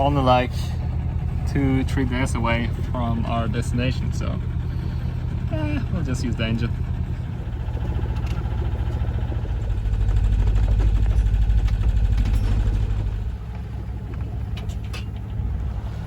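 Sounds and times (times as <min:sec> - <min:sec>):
boat engine throbbing: 0:00.0 - 0:16.0.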